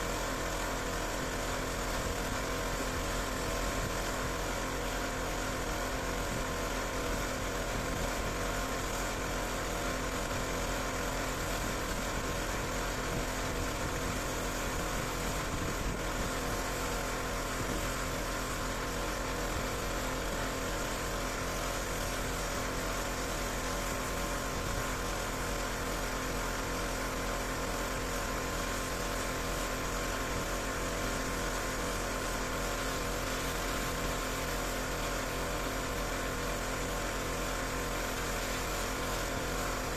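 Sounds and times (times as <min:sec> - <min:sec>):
pressure washer engine drone: 0:00.0 - 0:39.9.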